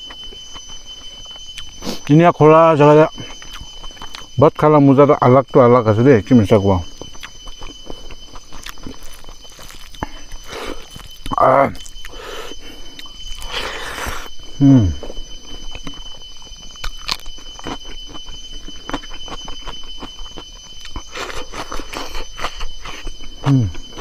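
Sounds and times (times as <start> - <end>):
chewing food: 0.0 - 2.1, 3.2 - 4.4, 6.9 - 14.3, 15.0 - 24.0.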